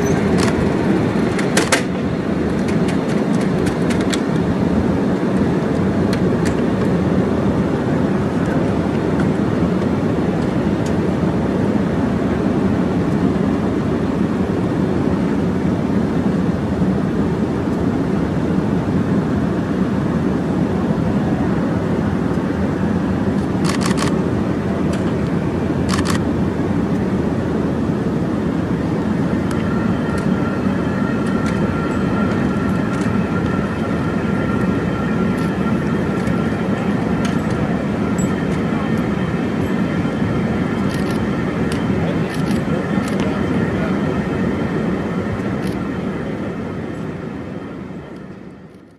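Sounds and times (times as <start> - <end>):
faint steady whine: 0.0 - 48.9
jet engine idling: 0.0 - 48.9.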